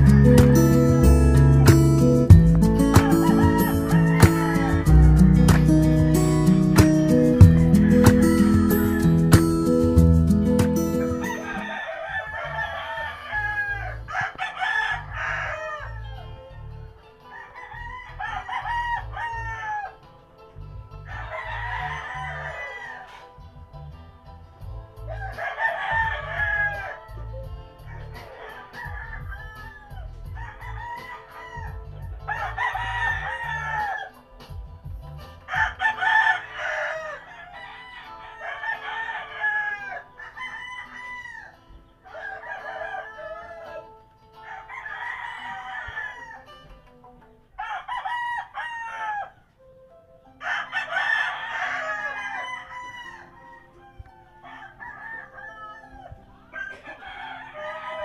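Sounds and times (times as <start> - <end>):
roosters crowing: 0.0 - 16.6, 17.2 - 20.1, 21.1 - 23.4, 25.0 - 34.6, 35.4 - 46.8, 47.6 - 49.5, 50.4 - 58.0.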